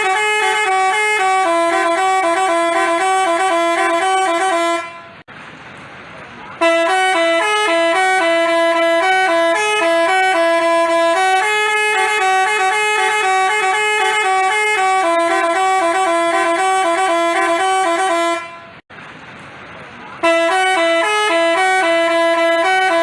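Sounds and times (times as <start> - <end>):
multi-tone horn melody: 0.0 - 5.2, 6.6 - 18.8, 20.2 - 23.0.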